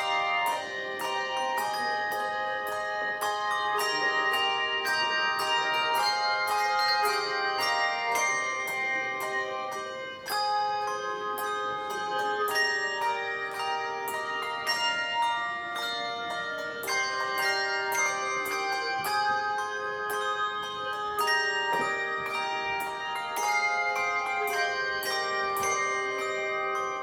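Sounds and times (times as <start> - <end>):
handbell choir playing: 0.0 - 27.0.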